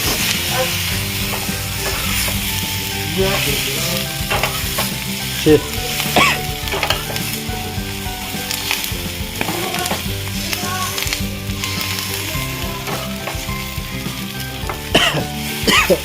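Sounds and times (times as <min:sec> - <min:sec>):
chillies sizzling in a pan: 0:00.0 - 0:16.0.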